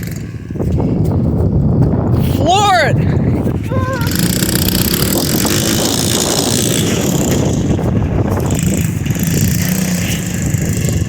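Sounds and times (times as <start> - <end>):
pit bike engine at full throttle: 0.0 - 11.0.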